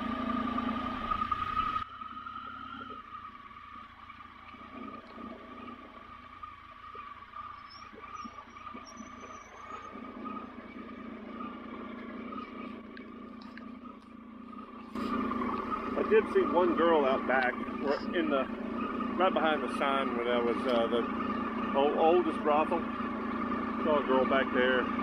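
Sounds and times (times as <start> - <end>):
faint motorcycle engine drone: 0.0 - 25.0.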